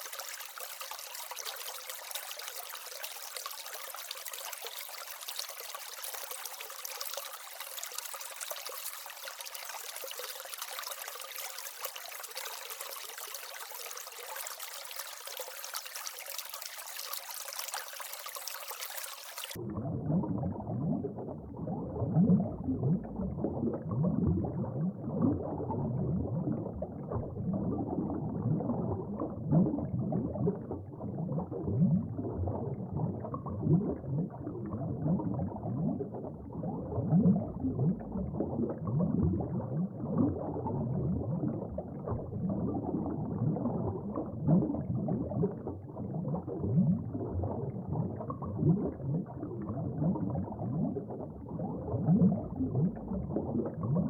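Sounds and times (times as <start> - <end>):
water bubbling and gurgling: 0.0 - 54.0.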